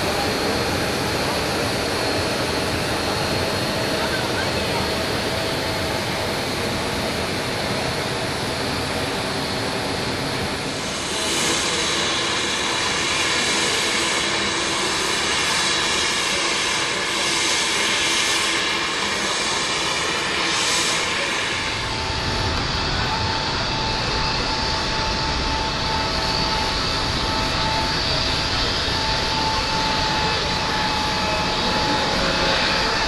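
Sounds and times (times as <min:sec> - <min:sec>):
jet aircraft roar with whine: 0:00.0 - 0:33.0.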